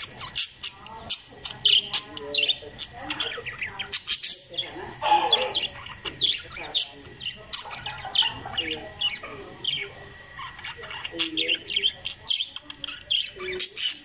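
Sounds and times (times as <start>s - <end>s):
parakeets chirping: 0.0s - 14.0s.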